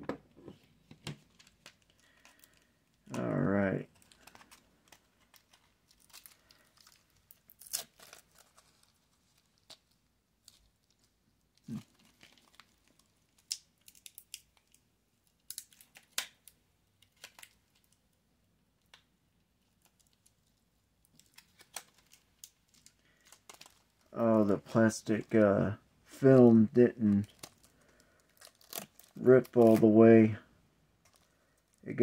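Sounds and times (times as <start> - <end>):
plastic film crinkling and tearing: 1.2 - 18.0, 19.6 - 30.3, 31.0 - 32.0.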